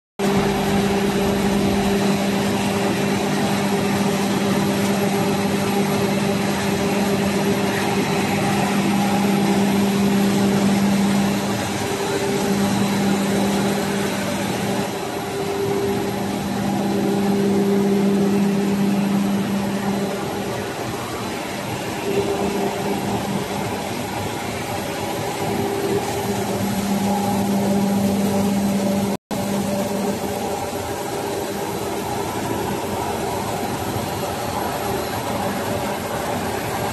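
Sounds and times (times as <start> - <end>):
lamination machine running: 0.2 - 36.9.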